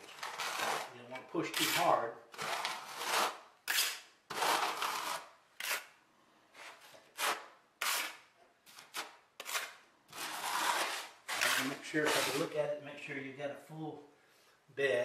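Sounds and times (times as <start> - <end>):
trowel scraping mortar: 0.0 - 12.6.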